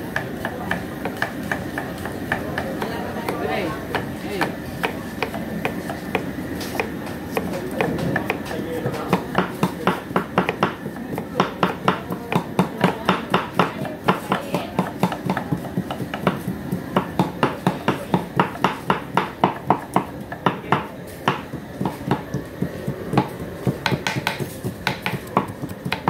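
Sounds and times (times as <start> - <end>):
knives chopping on wooden boards: 0.1 - 26.0.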